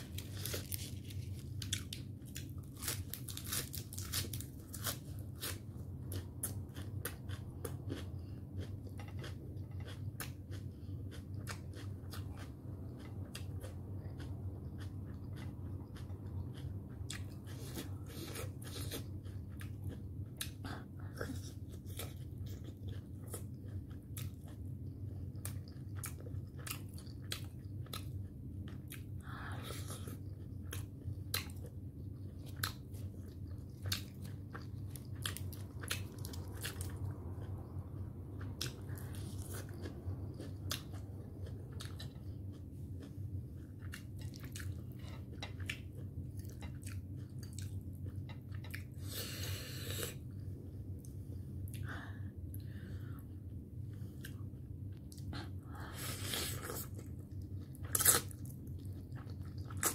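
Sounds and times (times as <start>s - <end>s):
person chewing dumplings: 0.0s - 59.9s
steady low hum: 0.0s - 59.9s.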